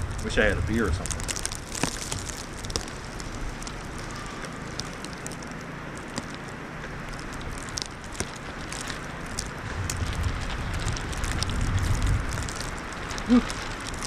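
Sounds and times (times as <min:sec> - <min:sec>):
faint crackling ticks: 0:00.0 - 0:14.0
wind hiss: 0:00.0 - 0:14.0.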